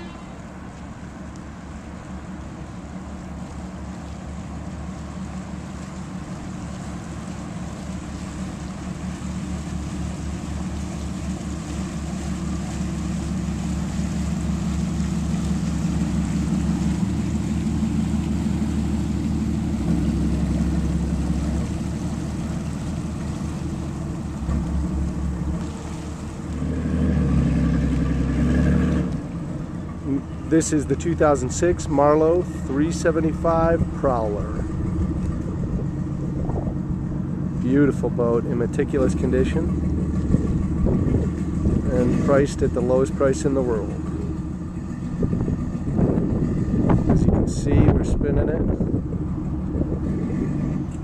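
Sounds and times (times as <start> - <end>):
boat engines rumbling: 0.0 - 51.0.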